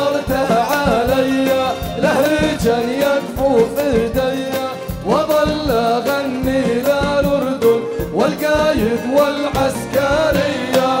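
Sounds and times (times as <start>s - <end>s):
orchestra playing a song: 0.0s - 11.0s
person singing: 0.0s - 11.0s
steady drum beat: 0.0s - 11.0s.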